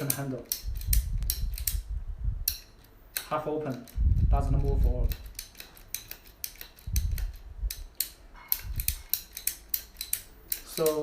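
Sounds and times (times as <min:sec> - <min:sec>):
ratchet clicking: 0:00.0 - 0:11.0.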